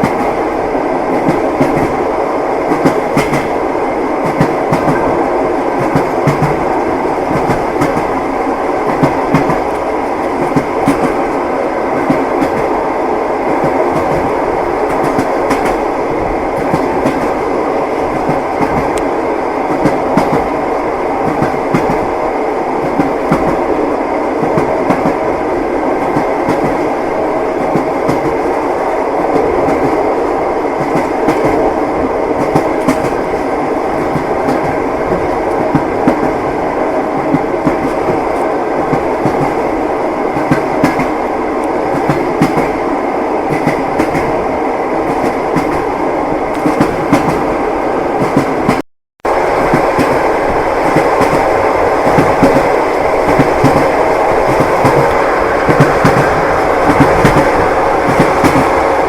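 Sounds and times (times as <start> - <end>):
train carriage rumble: 0.0 - 59.0.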